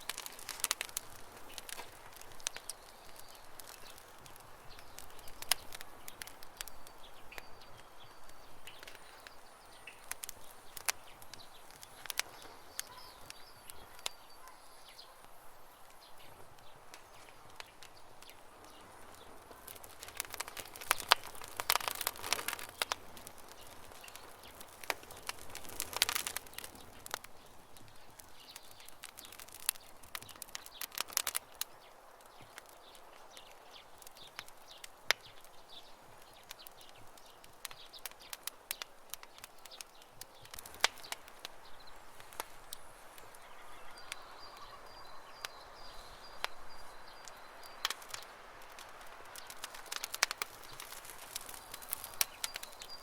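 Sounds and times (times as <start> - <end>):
birds chirping: 0.0 - 53.0
campfire crackling and popping: 0.0 - 53.0
soft steady hiss: 0.0 - 53.0.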